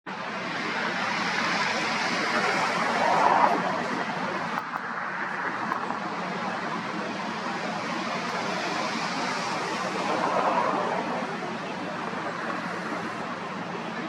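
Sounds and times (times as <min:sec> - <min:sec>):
jet engines roaring past: 0:00.1 - 0:14.0.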